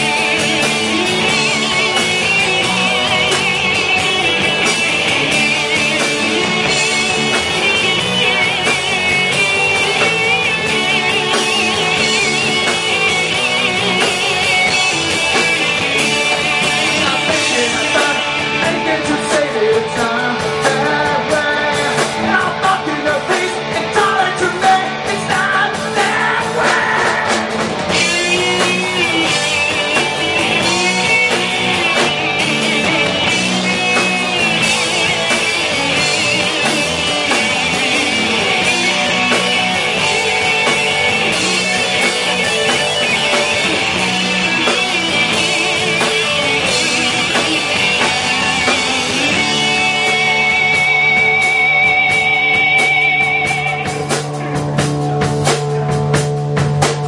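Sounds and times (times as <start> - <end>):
live rock band: 0.0 - 57.0.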